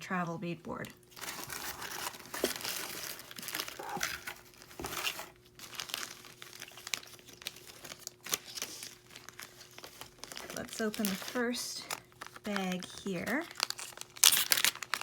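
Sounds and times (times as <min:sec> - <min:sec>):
packaging crinkling: 0:01.1 - 0:15.0.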